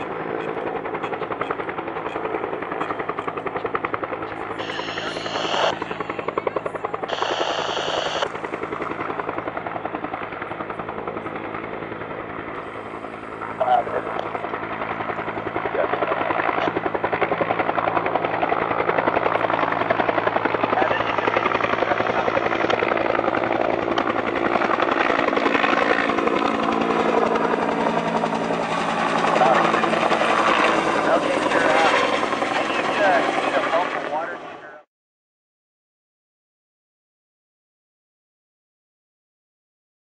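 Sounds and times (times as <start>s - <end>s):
helicopter rotor beating: 0.0s - 34.8s.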